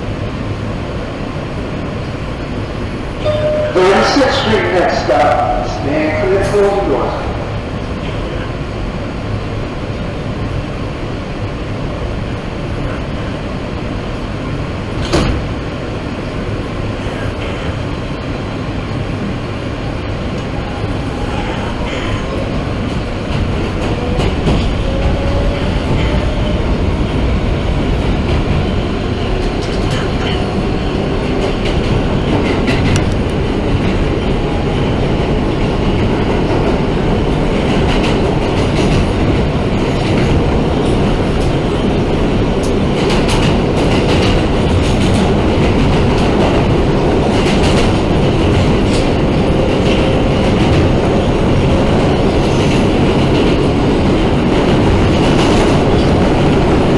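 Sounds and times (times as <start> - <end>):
subway wheels rumbling on rail: 0.0 - 56.9.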